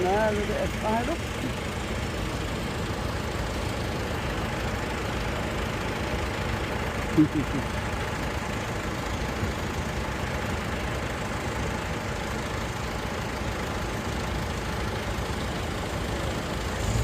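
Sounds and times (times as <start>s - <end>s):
tractor engines idling: 0.0s - 17.0s.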